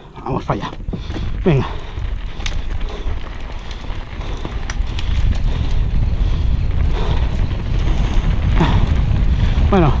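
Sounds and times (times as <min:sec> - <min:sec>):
wind buffeting microphone: 0:00.0 - 0:10.0
tyres rolling on dirt: 0:00.3 - 0:10.0
bike clicks and rattles: 0:00.5 - 0:10.0.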